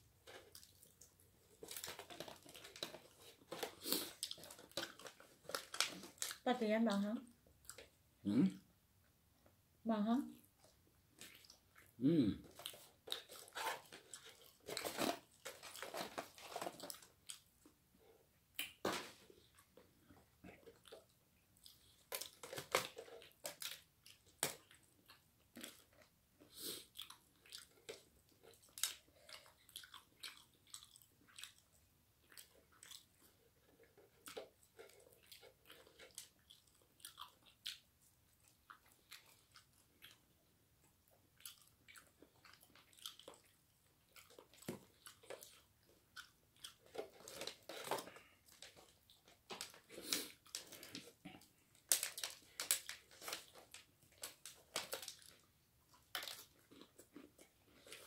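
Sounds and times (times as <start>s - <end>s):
chewing and crunching food: 0.0s - 8.6s, 10.3s - 58.0s.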